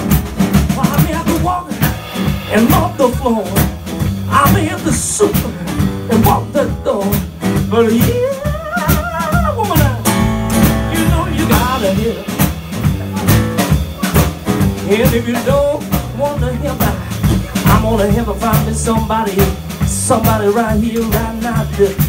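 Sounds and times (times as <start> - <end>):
acoustic band music: 0.0 - 22.0
man singing: 0.7 - 22.0.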